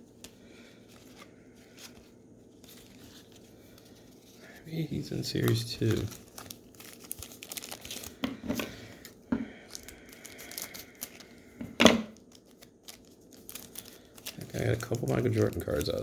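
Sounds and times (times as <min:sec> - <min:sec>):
cards and wrappers crinkling: 0:00.1 - 0:16.0
sharp wrapper rustle: 0:00.9 - 0:08.2, 0:08.9 - 0:11.5, 0:12.1 - 0:16.0.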